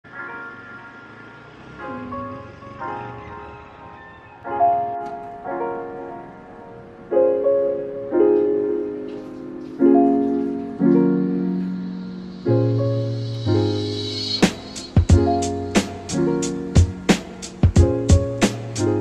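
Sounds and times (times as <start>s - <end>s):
slow piano chords: 0.1s - 19.0s.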